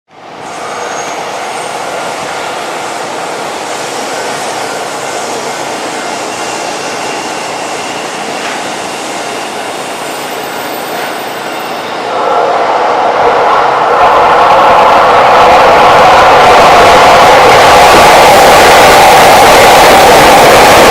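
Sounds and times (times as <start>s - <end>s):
train wheels rumbling on track: 0.3s - 20.9s.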